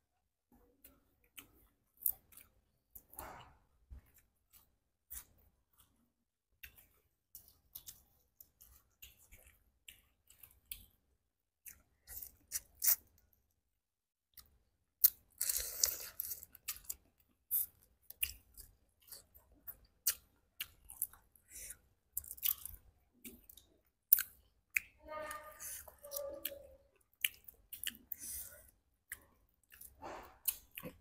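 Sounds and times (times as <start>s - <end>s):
people chewing and biting: 0.7s - 13.3s, 14.3s - 25.0s, 25.6s - 31.0s.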